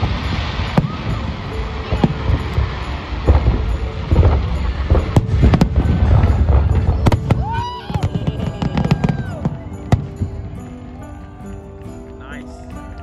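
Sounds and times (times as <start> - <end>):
deep rumble: 0.0 - 10.6
fireworks bangs and cracks: 0.0 - 13.0.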